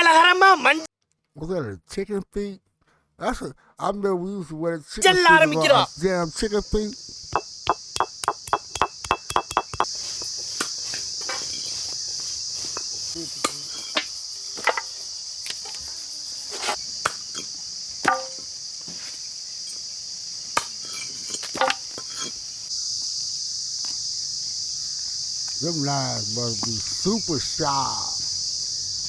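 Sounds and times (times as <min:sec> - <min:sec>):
crickets chirping: 0:00.0 - 0:00.9, 0:05.0 - 0:29.0.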